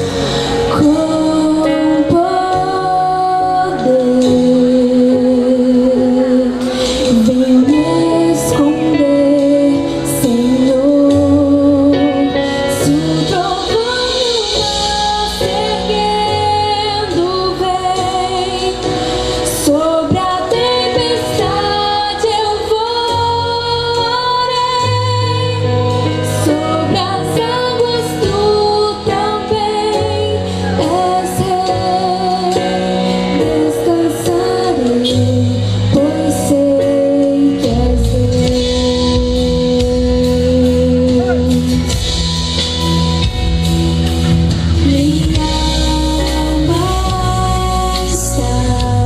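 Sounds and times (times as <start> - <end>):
woman singing gospel: 0.0 - 42.1, 44.7 - 49.0
instrumental accompaniment with bass: 0.0 - 49.0.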